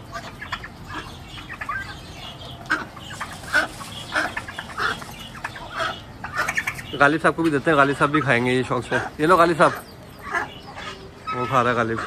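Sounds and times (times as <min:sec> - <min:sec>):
chicken clucking: 0:00.0 - 0:12.0.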